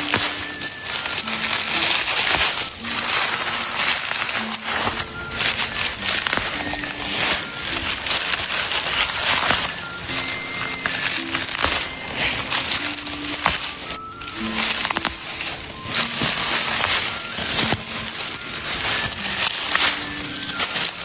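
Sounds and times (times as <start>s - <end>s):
faint background music: 0.0s - 21.0s
leaves and stalks rustling: 0.0s - 21.0s
stalks snapping: 0.0s - 21.0s.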